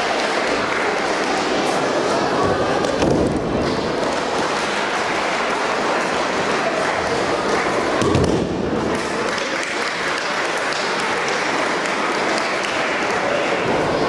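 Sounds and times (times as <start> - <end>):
crowd murmur in a hall: 0.0 - 14.0.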